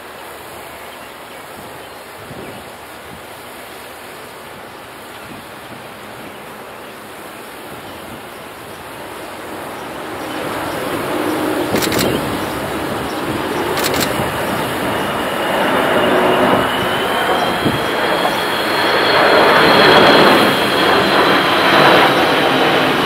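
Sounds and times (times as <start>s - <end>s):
jet engines passing overhead: 0.0s - 23.0s.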